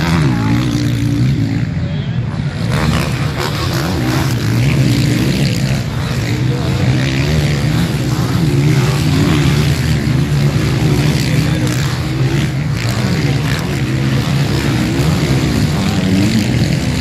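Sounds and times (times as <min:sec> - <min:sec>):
motocross bikes revving: 0:00.0 - 0:17.0.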